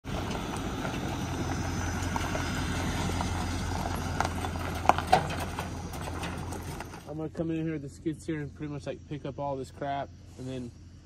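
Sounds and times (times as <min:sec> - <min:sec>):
pickup truck engine humming: 0:00.0 - 0:11.0.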